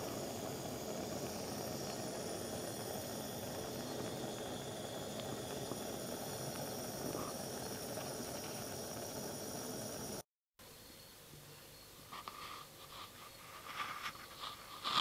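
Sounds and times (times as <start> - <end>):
gas burner flame hissing: 0.0 - 10.3, 12.7 - 15.0.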